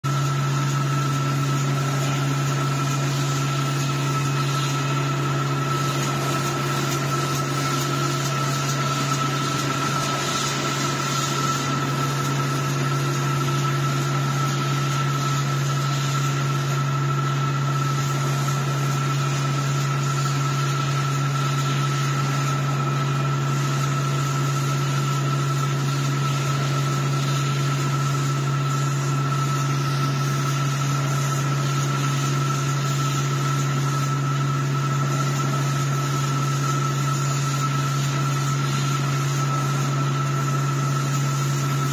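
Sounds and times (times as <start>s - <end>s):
constant high whine: 0.0s - 41.9s
low mechanical hum: 0.0s - 41.9s.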